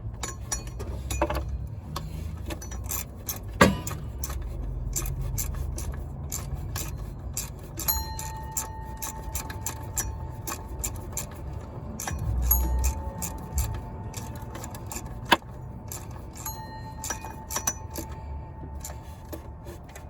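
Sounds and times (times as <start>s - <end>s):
low steady rumble: 0.0s - 20.0s
tools clicking and scraping metal: 0.0s - 20.0s.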